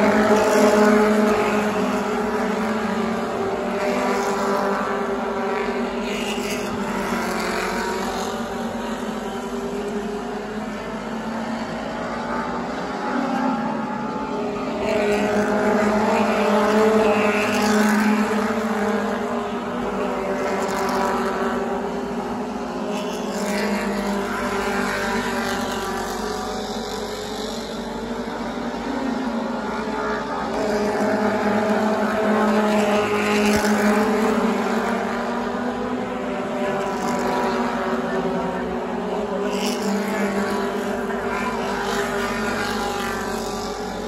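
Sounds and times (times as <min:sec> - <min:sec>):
race car engines droning: 0:00.0 - 0:44.0.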